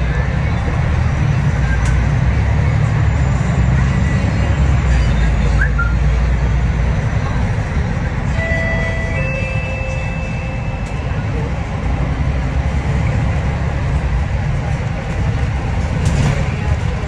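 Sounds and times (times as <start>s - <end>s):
bus engine rumble: 0.0s - 17.0s
road noise: 0.0s - 17.0s.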